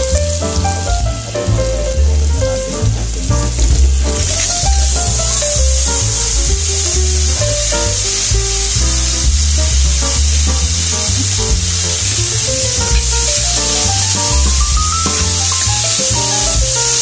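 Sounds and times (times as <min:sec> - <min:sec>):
background music: 0:00.0 - 0:17.0
vegetables sizzling in oil: 0:00.0 - 0:17.0.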